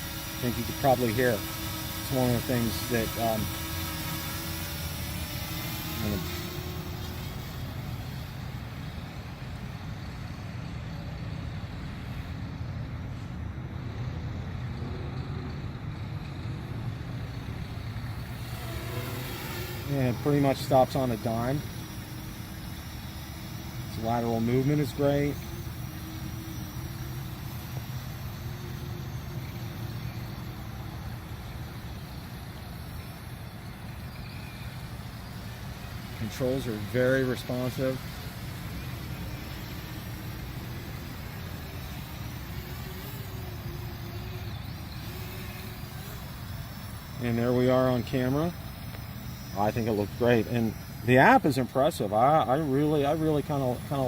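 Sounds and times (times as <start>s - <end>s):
drone propellers humming: 0.0s - 54.0s.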